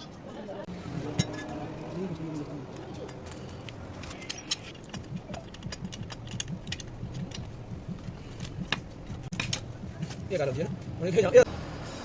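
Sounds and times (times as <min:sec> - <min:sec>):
steady low hum: 0:00.7 - 0:11.6.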